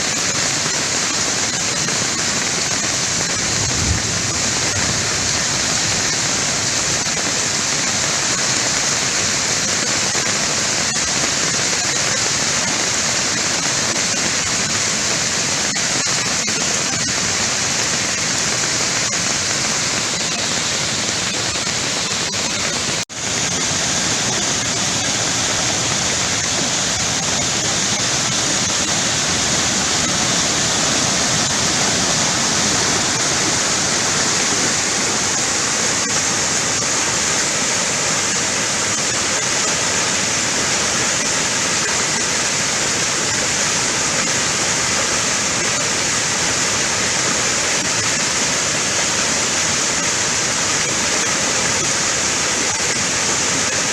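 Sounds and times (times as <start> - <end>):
rushing waterfall and stream: 0.0 - 53.9.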